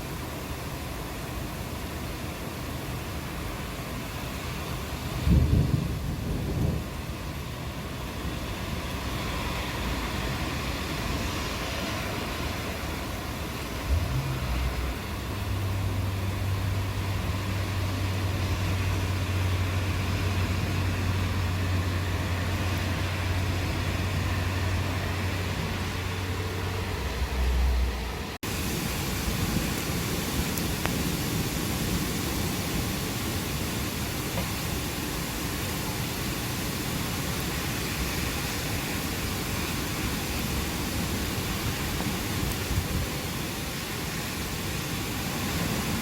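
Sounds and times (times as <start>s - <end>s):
rain hiss: 0.0s - 46.0s.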